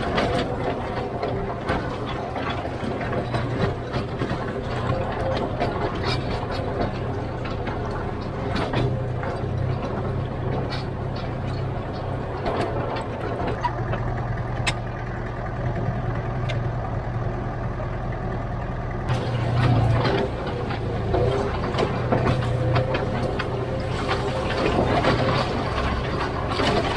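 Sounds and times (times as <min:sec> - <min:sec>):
knocks and clanks: 0:00.0 - 0:14.9, 0:19.1 - 0:26.9
diesel engine running: 0:00.0 - 0:26.9.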